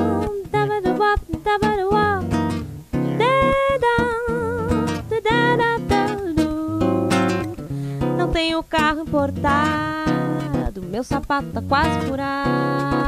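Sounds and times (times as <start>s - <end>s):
plucked acoustic guitar: 0.0s - 13.0s
woman singing: 0.0s - 13.0s.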